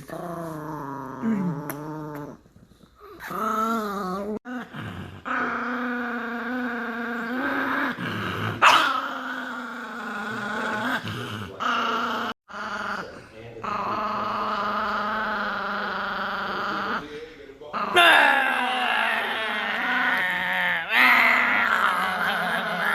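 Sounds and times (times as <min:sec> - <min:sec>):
small dog growling: 0:00.0 - 0:22.9.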